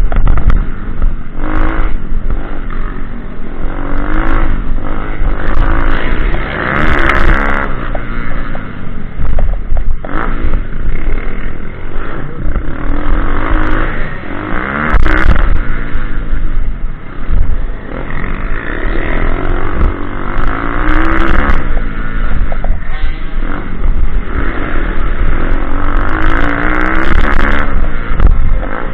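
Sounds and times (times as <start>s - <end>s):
motorbike engine revving: 0.0s - 28.9s.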